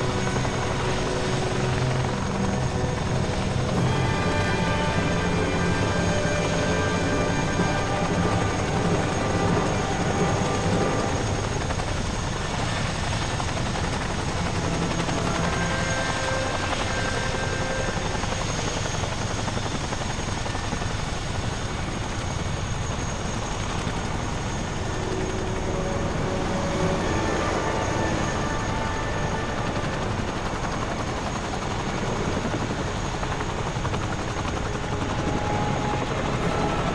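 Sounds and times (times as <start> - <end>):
helicopter rotor and turbine: 0.0 - 36.9
high even whine: 0.0 - 36.9.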